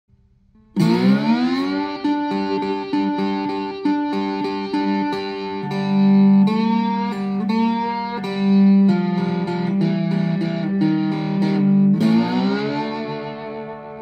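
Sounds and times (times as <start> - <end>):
guitar riff: 0.5 - 14.0.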